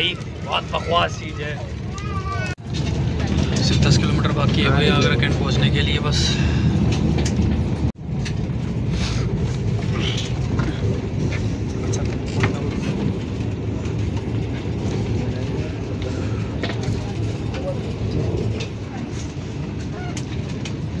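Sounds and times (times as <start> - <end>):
electric train rumble from inside: 0.0 - 21.0.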